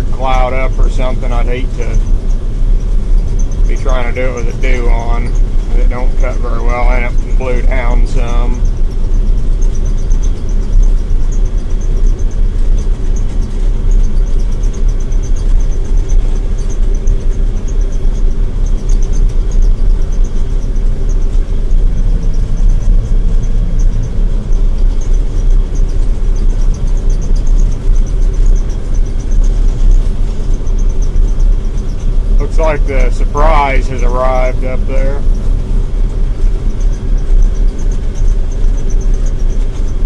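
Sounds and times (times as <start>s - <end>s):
combine harvester rumbling: 0.0s - 40.0s
faint high whine: 0.0s - 40.0s.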